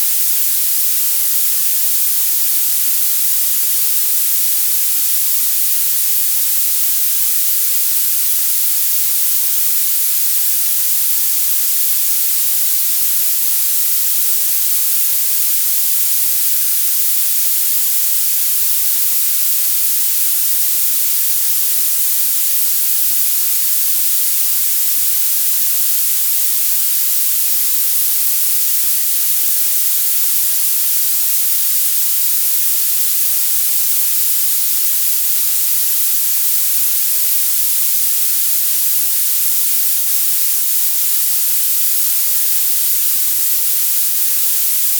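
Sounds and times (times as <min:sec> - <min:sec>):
high-pitched hiss: 0:00.0 - 0:44.9.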